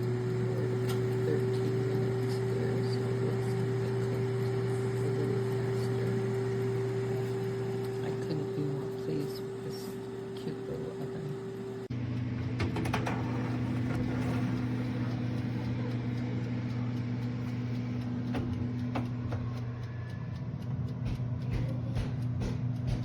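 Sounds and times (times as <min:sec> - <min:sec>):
air fryer fan hum: 0:00.0 - 0:23.0.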